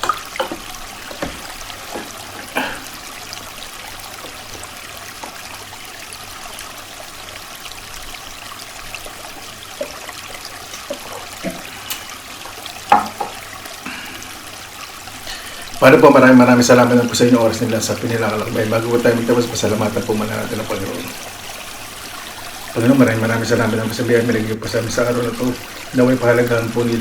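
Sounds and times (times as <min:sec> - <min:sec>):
creek water flowing: 0:00.0 - 0:27.0.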